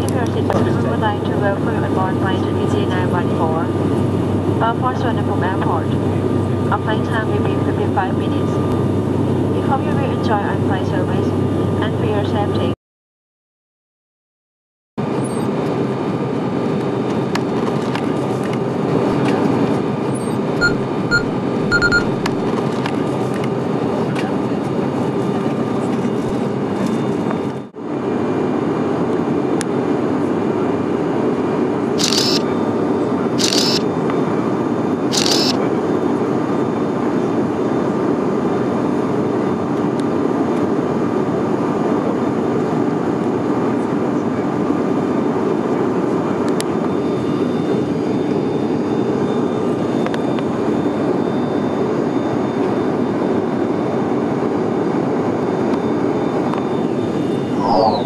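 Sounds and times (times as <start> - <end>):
airliner cabin drone: 0.0 - 12.8, 15.0 - 58.0.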